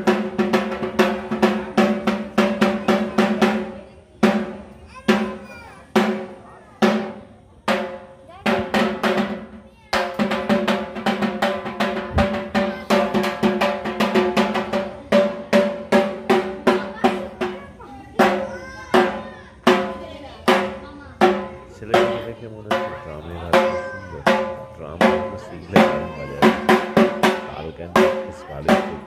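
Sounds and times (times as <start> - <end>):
drum beaten with sticks: 0.0 - 29.0.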